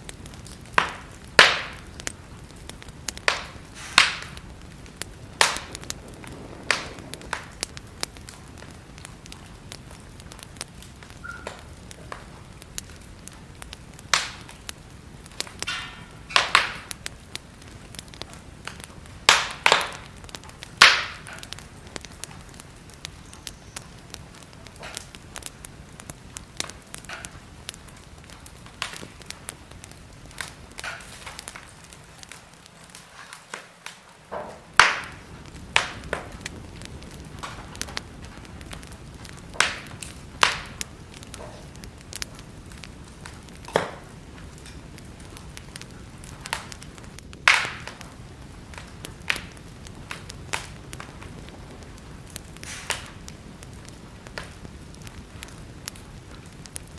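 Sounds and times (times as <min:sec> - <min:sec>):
fire crackling and popping: 0:00.0 - 0:56.9
wood fire hissing: 0:00.0 - 0:56.9.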